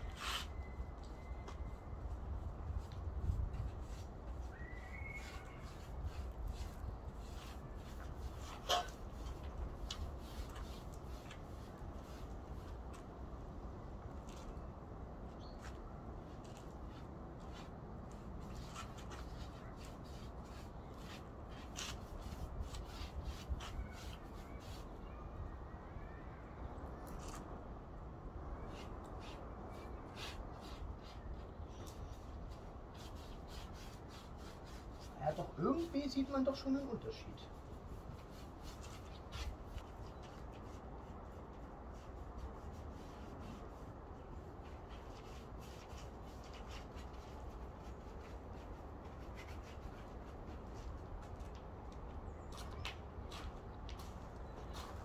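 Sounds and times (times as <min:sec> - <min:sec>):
paintbrush strokes on wood: 0:00.0 - 0:13.1, 0:15.5 - 0:25.2, 0:28.5 - 0:51.6, 0:52.5 - 0:55.0.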